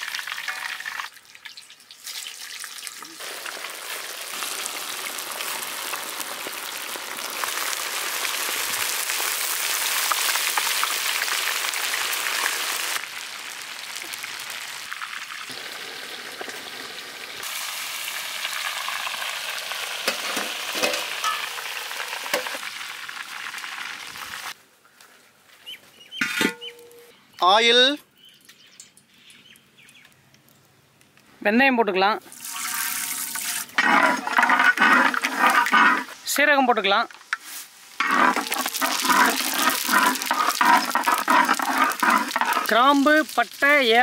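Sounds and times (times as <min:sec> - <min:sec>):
fish sizzling in hot oil: 0:00.0 - 0:24.6, 0:32.3 - 0:36.2, 0:37.2 - 0:44.0.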